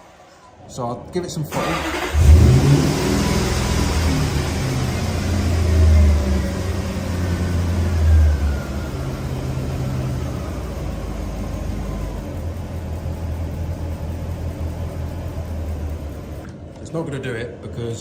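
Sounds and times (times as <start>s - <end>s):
car engine revving: 1.5s - 16.4s.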